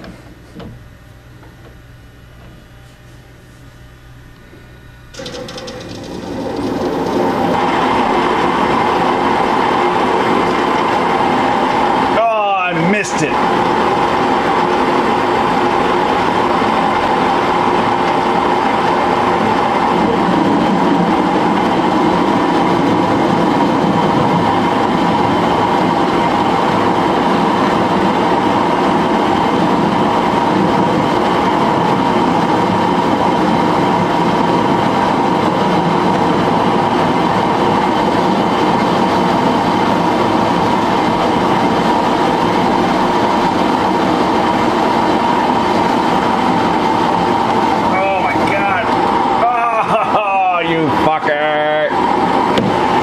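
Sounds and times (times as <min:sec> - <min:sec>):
metal lathe running: 0:00.0 - 0:53.0.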